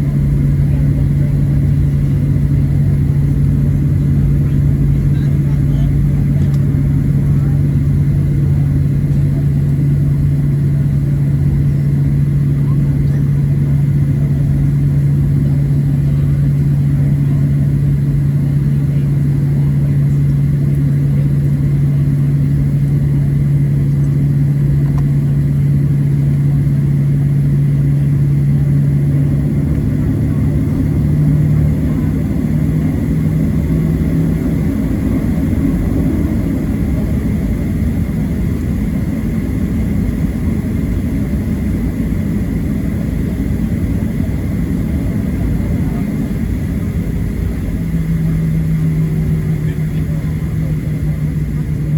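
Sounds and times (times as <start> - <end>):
aircraft cabin engine drone: 0.0 - 51.9.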